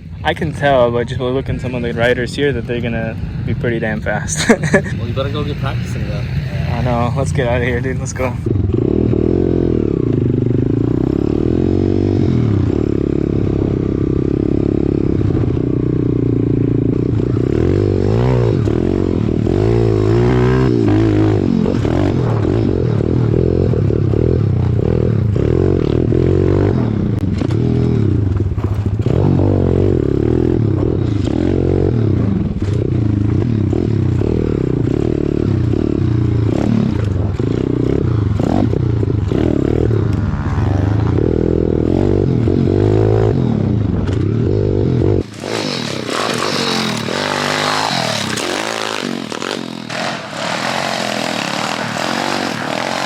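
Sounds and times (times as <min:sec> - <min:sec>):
pit bike engines revving: 0:00.0 - 0:53.0.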